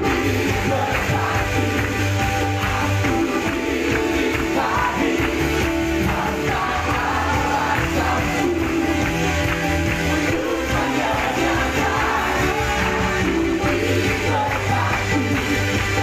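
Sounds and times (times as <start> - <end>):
pop-rock band music: 0.0 - 16.0.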